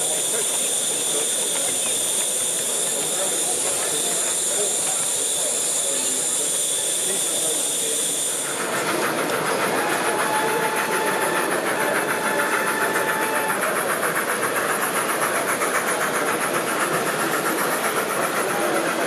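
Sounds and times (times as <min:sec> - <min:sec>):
wheels clattering on rail: 0:00.0 - 0:19.0.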